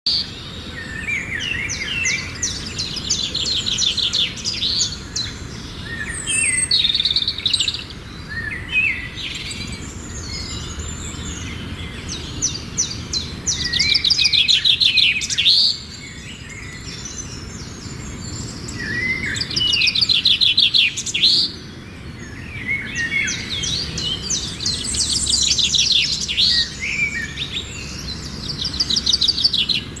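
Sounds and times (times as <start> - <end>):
songbirds trilling: 0.1 - 30.0.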